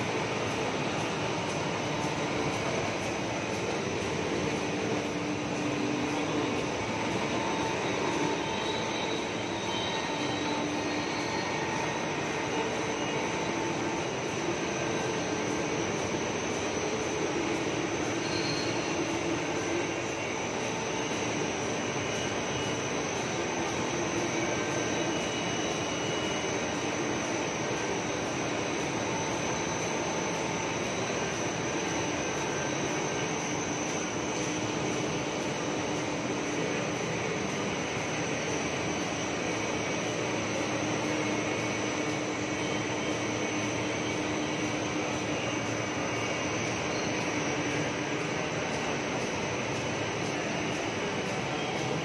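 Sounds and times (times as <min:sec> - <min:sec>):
faint high whine: 0:00.0 - 0:52.0
machinery noise of motors: 0:00.0 - 0:52.0.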